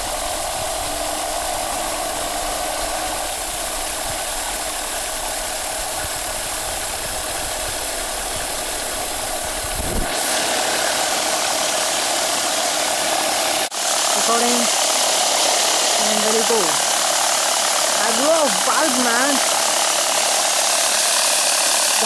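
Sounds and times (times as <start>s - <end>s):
hiss: 0.0s - 18.7s, 19.4s - 22.0s
electric motor whirring: 0.0s - 22.0s.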